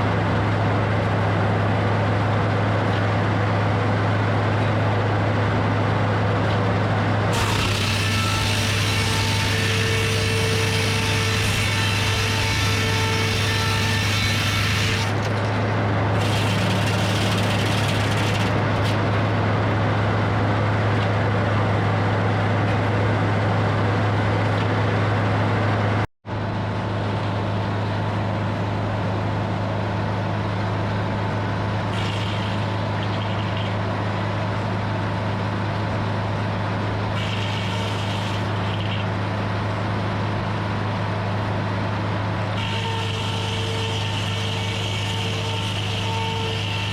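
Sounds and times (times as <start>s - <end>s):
sawmill engine drone: 0.0s - 46.9s.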